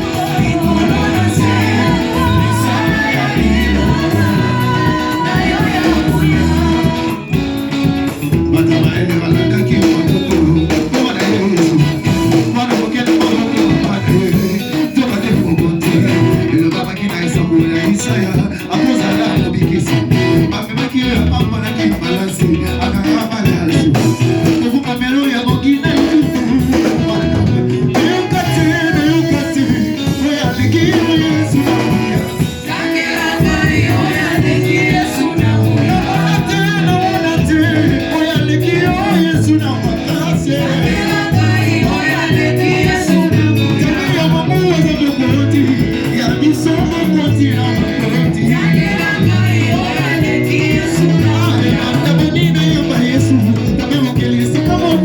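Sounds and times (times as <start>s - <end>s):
church worship band with singers: 0.0s - 55.0s.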